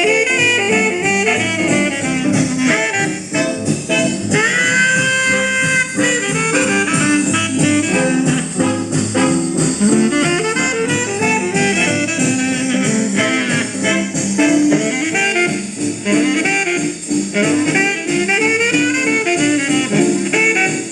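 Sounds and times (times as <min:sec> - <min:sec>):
old jazz band record with horns: 0:00.0 - 0:20.9.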